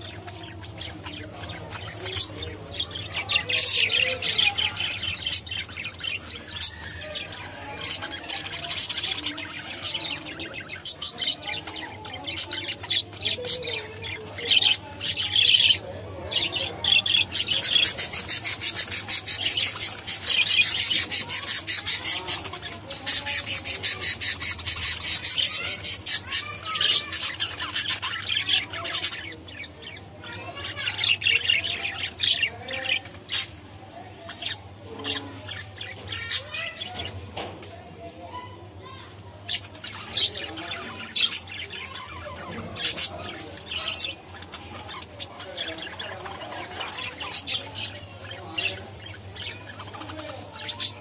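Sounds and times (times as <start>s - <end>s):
budgerigars chattering: 0.0s - 33.5s, 39.4s - 51.0s.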